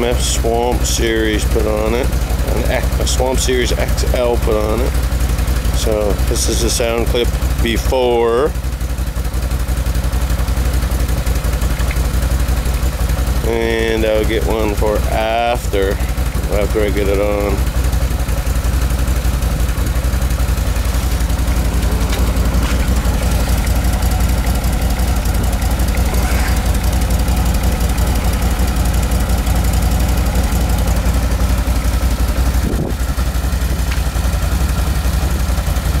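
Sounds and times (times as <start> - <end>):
atv engine idling: 0.0 - 36.0.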